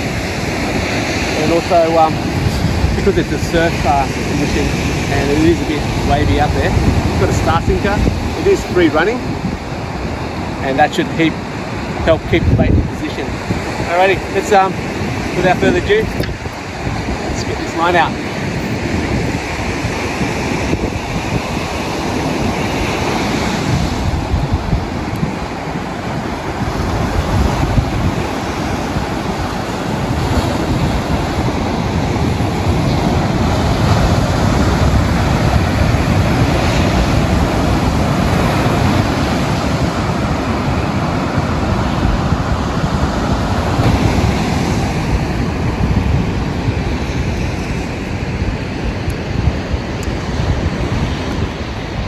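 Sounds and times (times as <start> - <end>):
ocean surf breaking: 0.0 - 52.0
wind buffeting microphone: 0.0 - 52.0.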